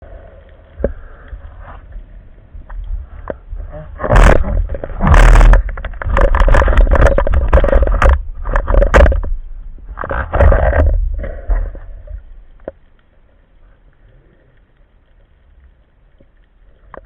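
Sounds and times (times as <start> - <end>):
low rumble of water: 0.0 - 17.0.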